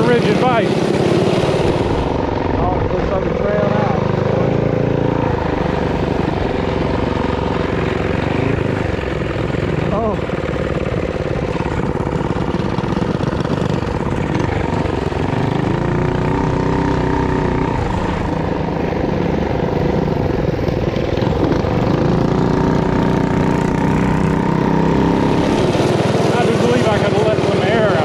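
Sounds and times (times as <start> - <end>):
small motorbike engine revving: 0.0 - 28.0.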